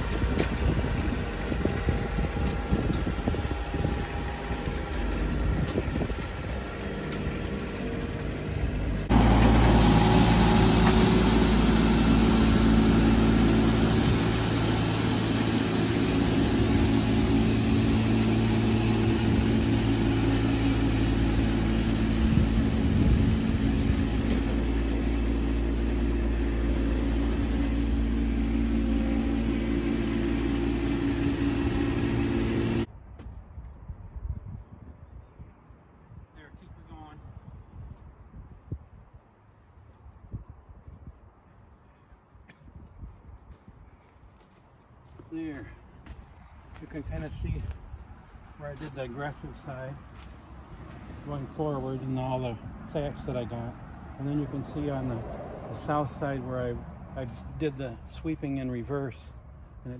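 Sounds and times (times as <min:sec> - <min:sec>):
tractor engine hum: 0:00.0 - 0:32.9, 0:44.3 - 0:59.9.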